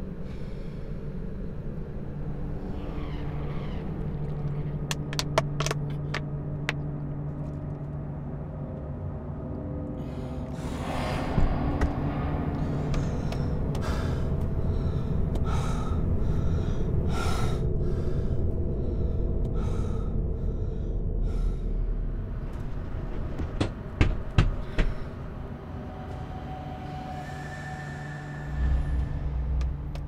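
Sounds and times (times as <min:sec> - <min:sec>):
low steady rumble: 0:00.0 - 0:26.4.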